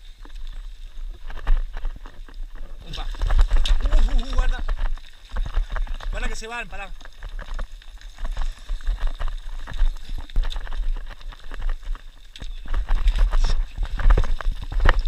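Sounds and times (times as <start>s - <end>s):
boots crunching on loose scree: 1.1s - 15.0s.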